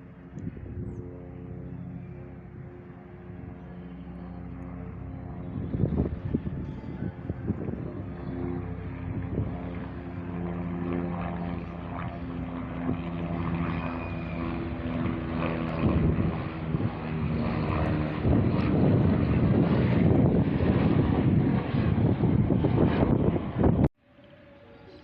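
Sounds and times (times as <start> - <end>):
choppy helicopter rotor: 0.0 - 25.0
helicopter flying by: 0.0 - 25.0.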